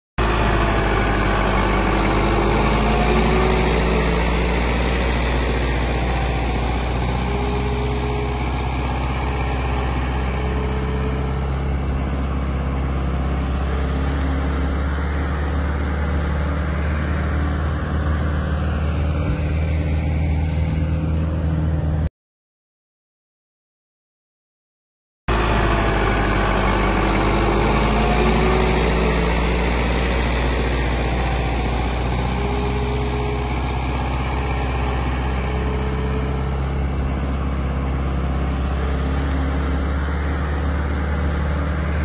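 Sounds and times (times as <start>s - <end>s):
engine rumbling: 0.2s - 22.1s, 25.3s - 42.0s.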